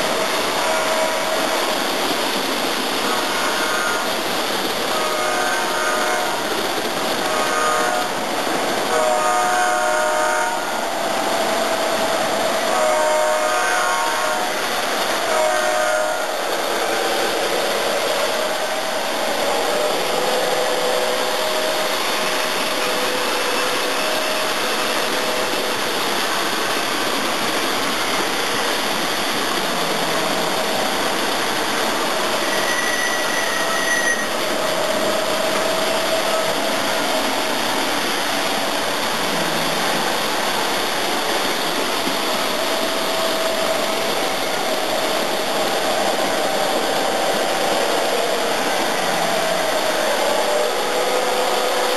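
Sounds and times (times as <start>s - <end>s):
model train whirring rumble: 0.0s - 51.9s.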